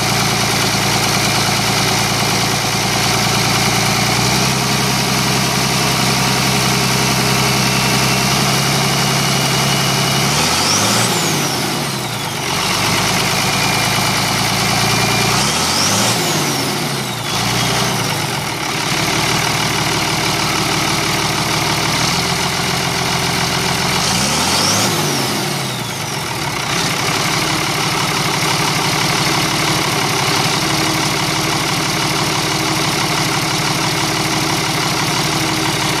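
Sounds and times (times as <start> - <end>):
diesel engine idling and revving: 0.0 - 36.0.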